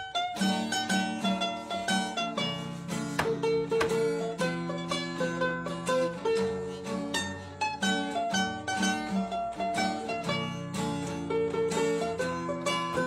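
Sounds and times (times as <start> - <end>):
plucked string instrument tune: 0.0 - 13.0.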